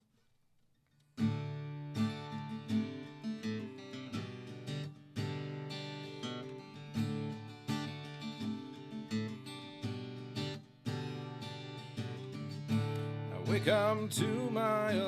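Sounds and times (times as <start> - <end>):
acoustic guitar strumming chords: 1.2 - 15.0.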